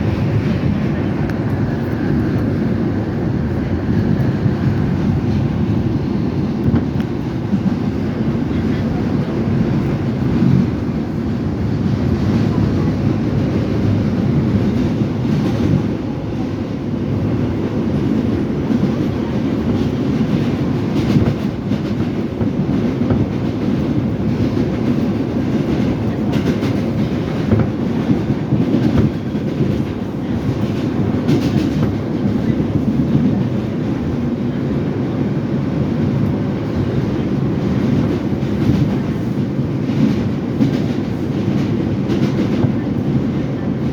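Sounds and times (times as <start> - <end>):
subway car wheels rumbling: 0.0 - 43.9.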